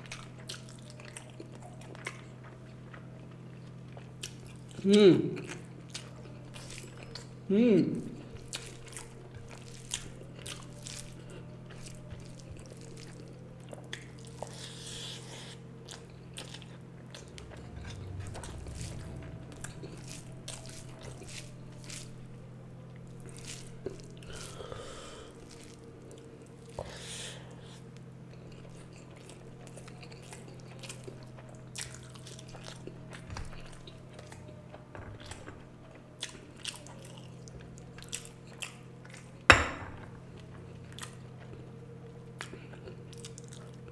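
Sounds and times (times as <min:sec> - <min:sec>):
person chewing food: 0:00.0 - 0:43.9
steady low hum: 0:00.0 - 0:43.9.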